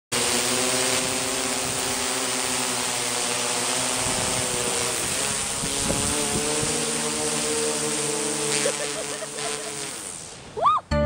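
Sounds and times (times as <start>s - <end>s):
drone propellers whirring: 0.1s - 10.6s
hiss: 0.9s - 10.6s.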